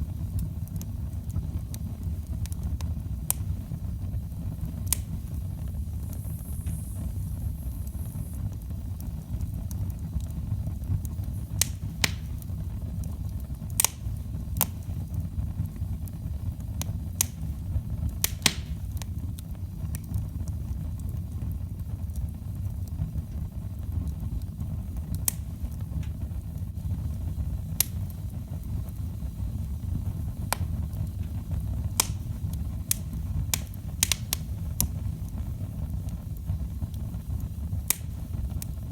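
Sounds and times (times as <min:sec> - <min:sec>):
burning wood crackling and popping: 0:00.0 - 0:38.9
low rumble of flames: 0:00.0 - 0:38.9.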